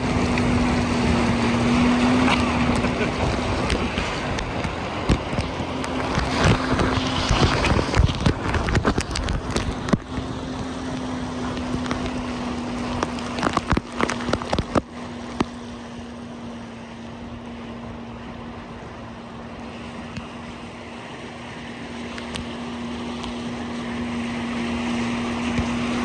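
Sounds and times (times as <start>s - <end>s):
jet ski engine running: 0.0s - 26.0s
rushing wake water: 0.0s - 26.0s
wind: 0.0s - 26.0s.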